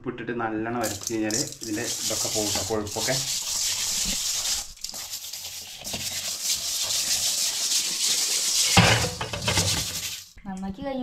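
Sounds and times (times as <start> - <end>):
hands rubbing fish in salt: 0.8 - 10.4.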